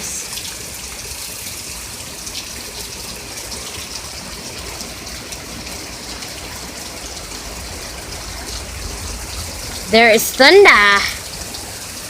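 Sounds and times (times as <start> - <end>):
steady rain splashing: 0.0 - 12.0.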